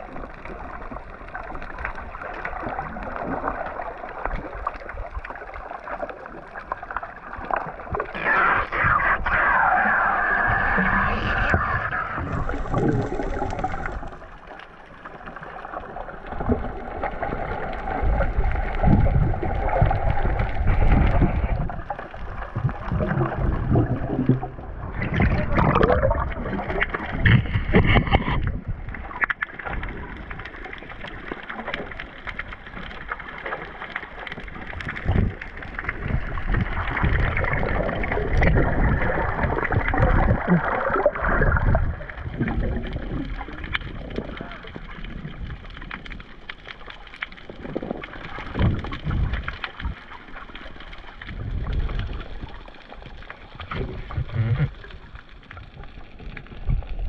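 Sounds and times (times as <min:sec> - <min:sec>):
muffled water gurgling and sloshing: 0:00.0 - 0:57.0.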